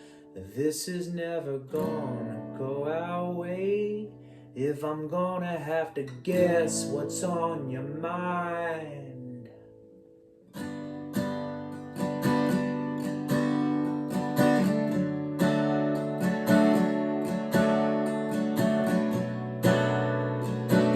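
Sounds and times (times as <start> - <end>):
acoustic guitar strumming chords: 0.0 - 20.9.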